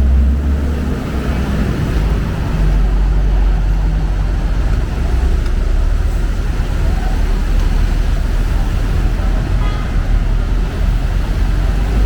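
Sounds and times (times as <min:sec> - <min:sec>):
street traffic: 0:00.0 - 0:12.0
vehicle engine humming nearby: 0:00.0 - 0:12.0.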